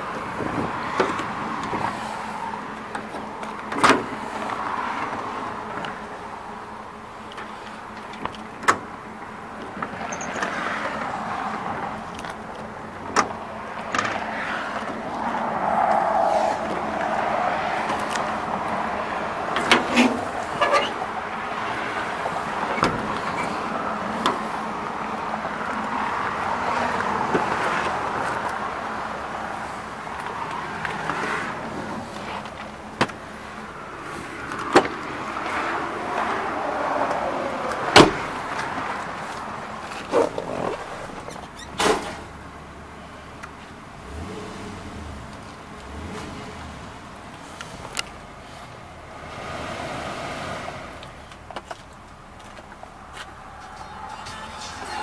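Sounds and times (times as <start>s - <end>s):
rushing background noise: 0.0s - 42.4s, 49.2s - 55.0s.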